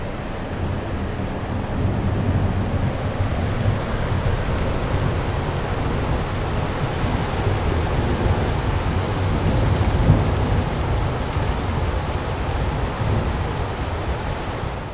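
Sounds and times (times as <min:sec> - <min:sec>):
rumble of thunder: 0:00.5 - 0:14.4.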